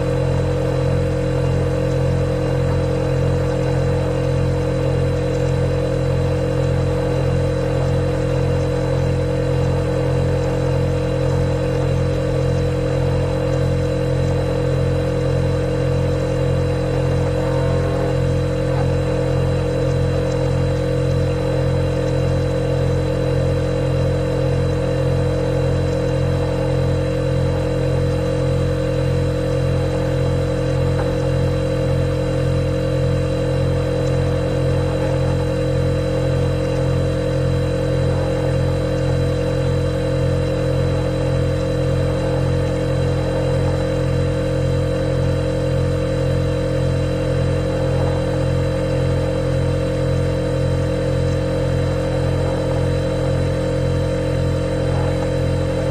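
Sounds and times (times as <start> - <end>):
high-pitched whine: 0.0 - 55.9
refrigerator hum: 0.0 - 55.9.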